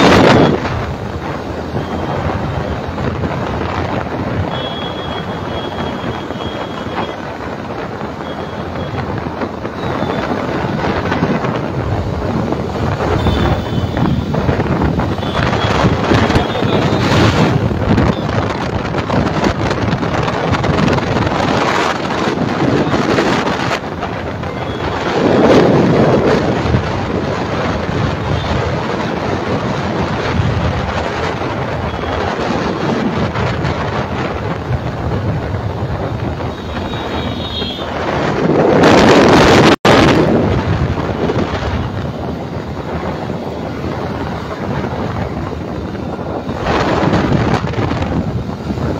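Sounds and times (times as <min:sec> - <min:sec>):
road noise: 0:00.0 - 0:48.9
wind buffeting microphone: 0:05.3 - 0:48.9.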